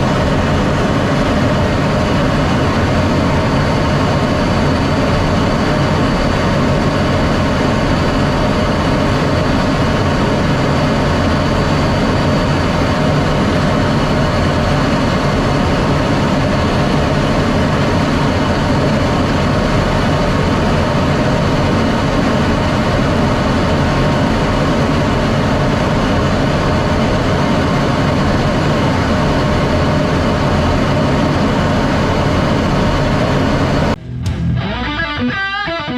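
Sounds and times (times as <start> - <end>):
jet engine drone with high whine: 0.0 - 35.9.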